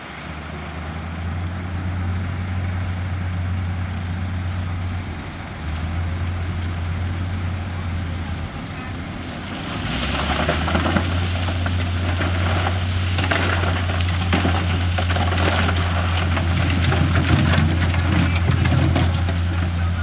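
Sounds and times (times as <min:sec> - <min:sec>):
gritty crackling noise: 0:00.0 - 0:20.0
heavy machinery diesel engine: 0:00.0 - 0:20.0.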